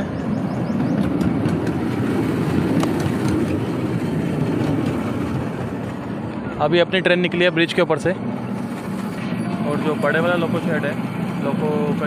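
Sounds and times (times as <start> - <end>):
miniature train running on track: 0.1 - 12.0.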